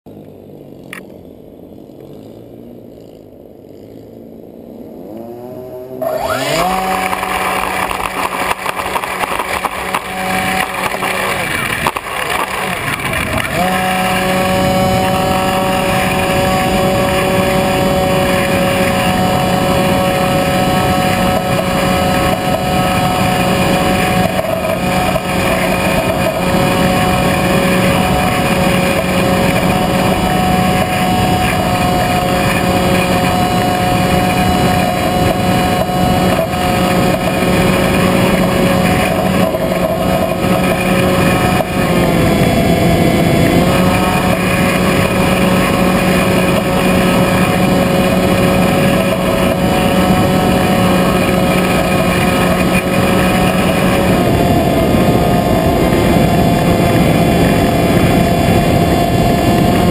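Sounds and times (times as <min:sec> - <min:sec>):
model aircraft motor and propeller: 0:00.1 - 0:59.9.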